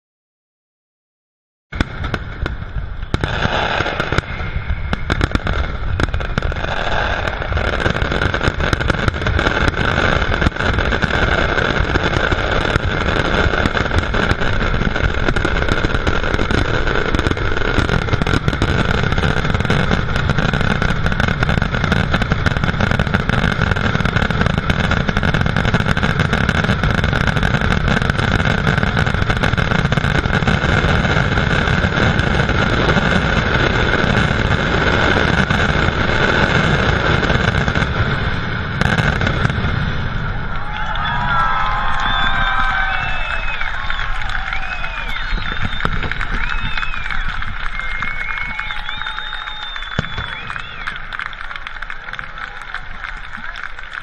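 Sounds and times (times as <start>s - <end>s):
firework bangs and crackling: 1.7s - 54.0s.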